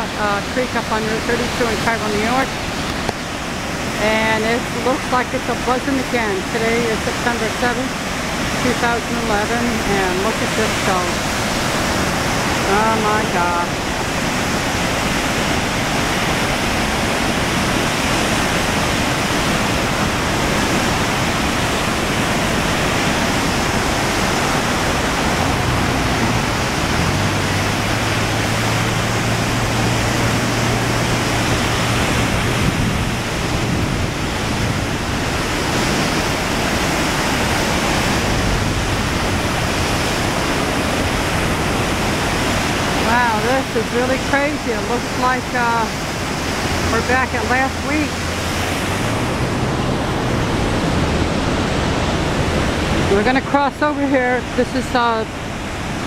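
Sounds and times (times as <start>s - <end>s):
rushing water roar: 0.0s - 56.0s.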